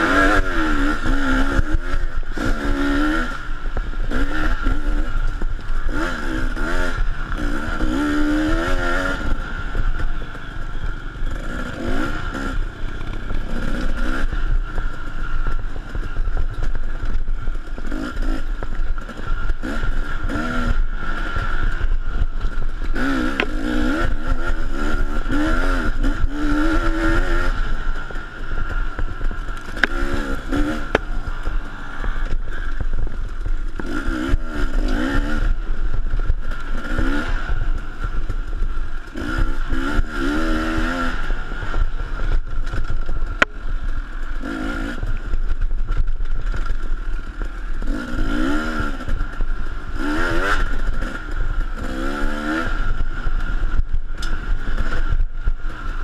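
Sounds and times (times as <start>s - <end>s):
chassis rattling over rough ground: 0.0s - 56.0s
dirt bike engine revving: 0.0s - 56.0s.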